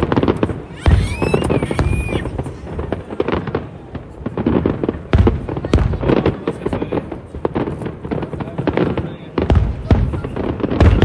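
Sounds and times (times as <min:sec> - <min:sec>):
fireworks booming and crackling: 0:00.0 - 0:11.0
high whistling firework: 0:00.0 - 0:11.0.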